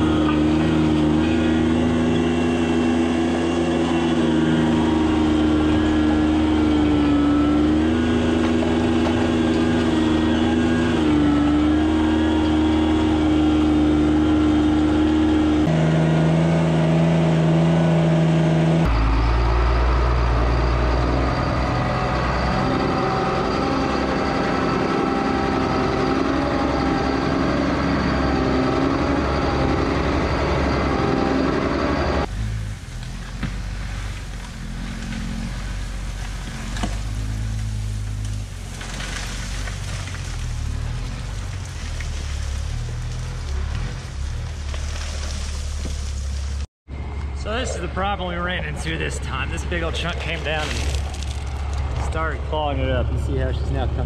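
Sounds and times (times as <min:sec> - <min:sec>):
diesel engine working: 0:00.0 - 0:54.0.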